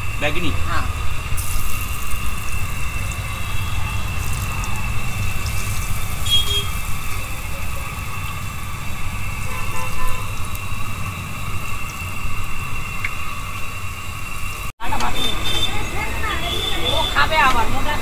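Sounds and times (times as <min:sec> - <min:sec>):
fritters sizzling in hot oil: 0:00.0 - 0:17.7.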